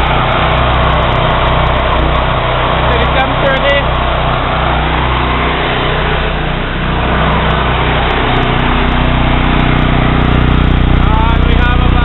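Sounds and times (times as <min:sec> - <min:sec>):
engines running steadily: 0:00.0 - 0:12.0.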